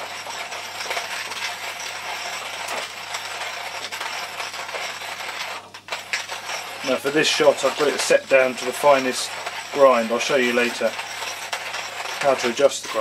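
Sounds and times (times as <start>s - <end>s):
hand coffee grinder crunching beans: 0.0s - 13.0s.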